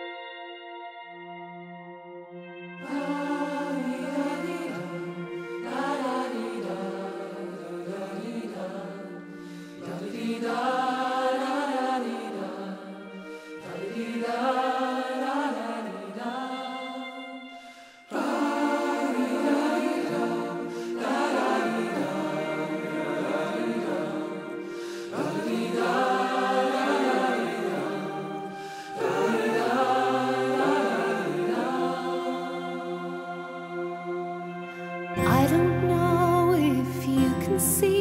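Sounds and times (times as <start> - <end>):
choir singing slow phrases: 0.0 - 38.0.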